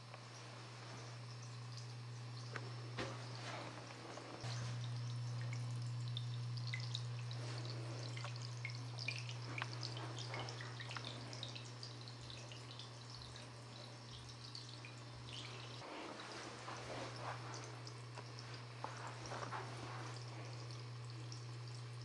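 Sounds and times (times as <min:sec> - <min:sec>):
steady low hum: 0:00.0 - 0:22.0
water trickling and dripping: 0:00.0 - 0:22.0.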